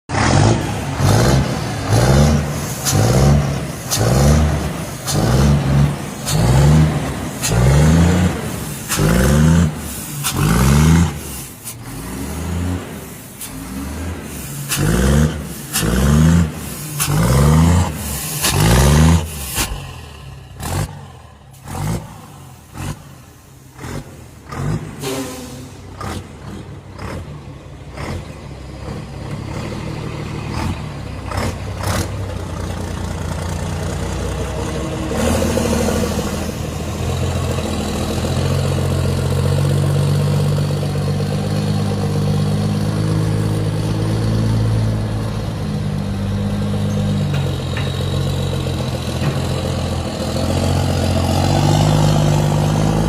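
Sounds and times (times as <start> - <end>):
truck diesel engine revving: 0.1 - 53.0.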